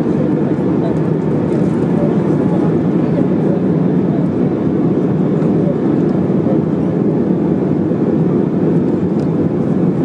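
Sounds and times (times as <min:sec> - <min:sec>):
airplane cabin rumble and hiss: 0:00.0 - 0:10.0.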